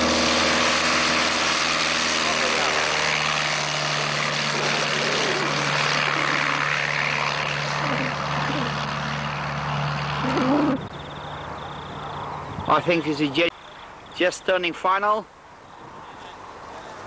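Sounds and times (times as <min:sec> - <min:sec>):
light aircraft engine and propeller drone: 0:00.0 - 0:17.0.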